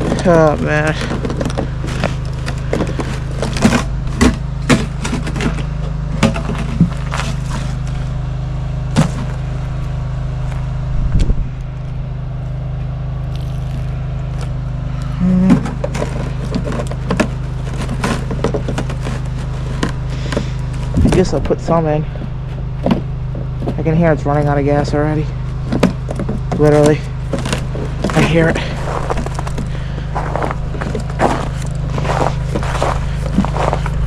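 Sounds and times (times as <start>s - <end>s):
lawn tractor engine idling: 0.0s - 34.0s.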